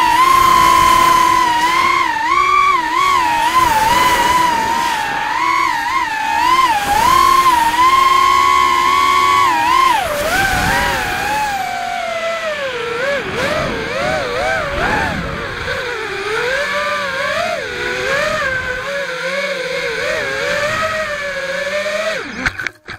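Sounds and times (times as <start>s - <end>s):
drone motors whining: 0.0s - 22.9s.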